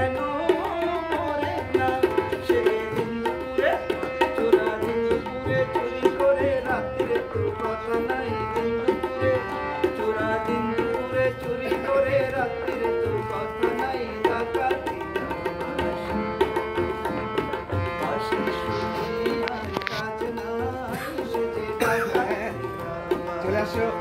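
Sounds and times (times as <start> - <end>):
harmonium chords and melody: 0.0 - 24.0
tabla strokes: 0.0 - 24.0.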